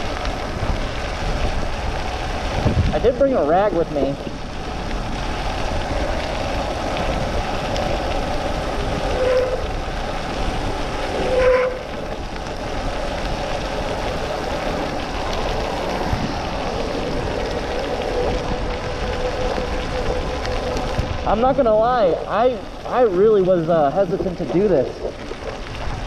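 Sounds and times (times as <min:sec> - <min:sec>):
wind rush and tyre noise: 0:00.0 - 0:26.0.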